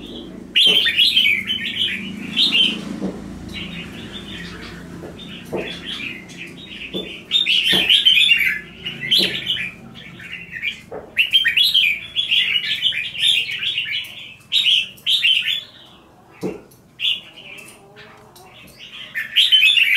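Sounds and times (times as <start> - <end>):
birds singing: 0.0 - 19.9.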